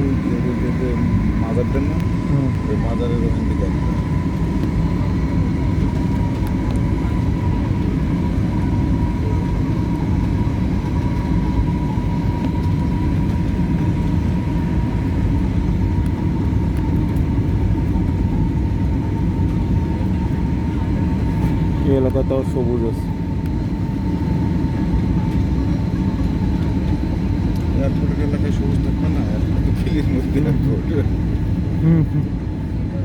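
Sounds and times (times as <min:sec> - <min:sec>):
aircraft cabin roar: 0:00.0 - 0:33.0
thin steady whine: 0:00.0 - 0:33.0.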